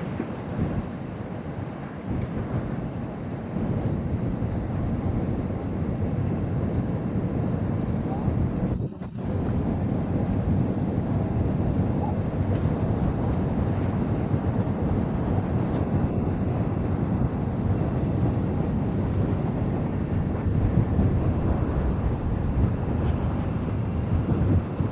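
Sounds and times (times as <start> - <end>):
jet airliner engine landing: 0.0 - 24.9
wind buffeting microphone: 0.0 - 24.9.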